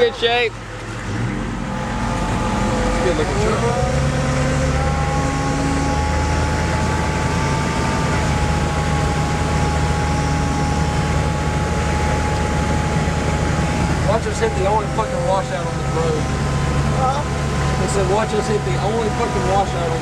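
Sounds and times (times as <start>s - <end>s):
diesel engine running inside vehicle: 0.0s - 20.0s
steady high whine: 0.0s - 20.0s.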